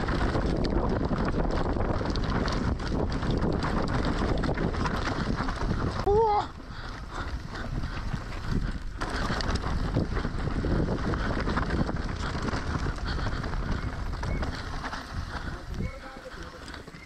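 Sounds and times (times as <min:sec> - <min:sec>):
wind rushing over microphone: 0:00.0 - 0:16.3
bike knocking and clattering: 0:00.0 - 0:17.0
tyres rolling on dirt: 0:00.0 - 0:17.0.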